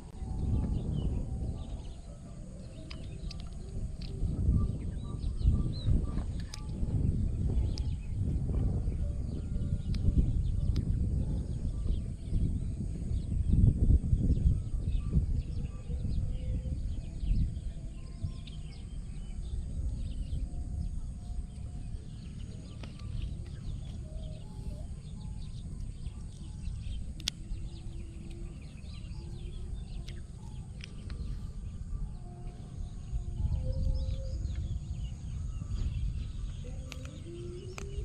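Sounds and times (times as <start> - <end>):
low rumbling noise: 0.0 - 38.0
small birds chirping: 0.0 - 38.0.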